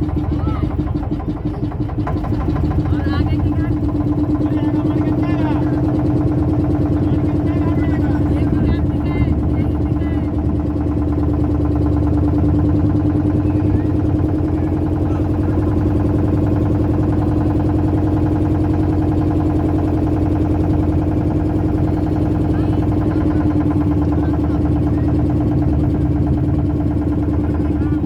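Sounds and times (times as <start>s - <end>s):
boat motor droning: 0.0s - 28.0s.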